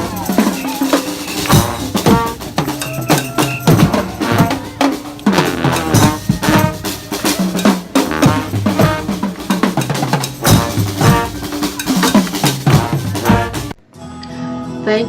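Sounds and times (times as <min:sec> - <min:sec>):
bass drum and snare beating: 0:00.0 - 0:13.8
brass band playing: 0:00.0 - 0:13.8.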